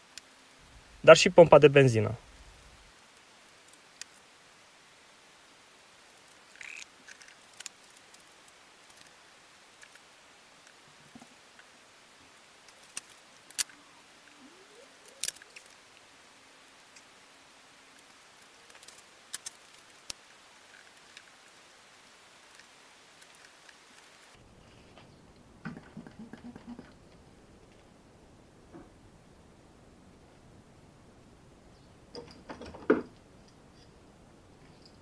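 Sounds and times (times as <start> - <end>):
faint steady hiss: 0.0 - 35.0.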